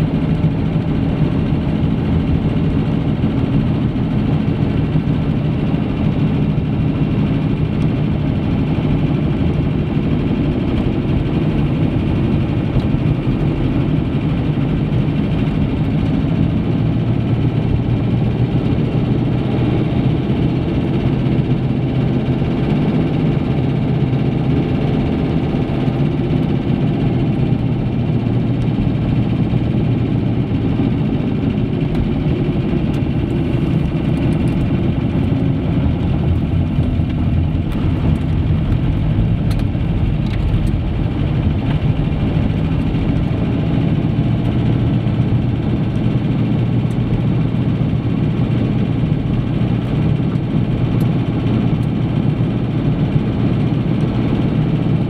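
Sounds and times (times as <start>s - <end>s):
car engine and tyre drone: 0.0s - 55.0s.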